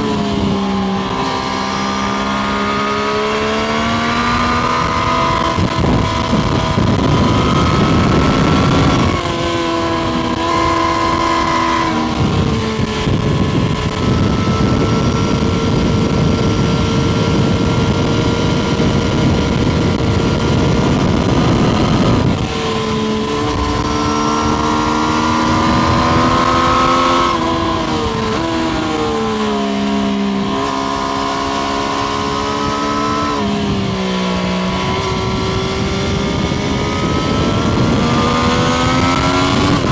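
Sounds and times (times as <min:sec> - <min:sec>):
loud rushing wind noise: 0:00.0 - 0:39.9
motorcycle engine running: 0:00.0 - 0:39.9.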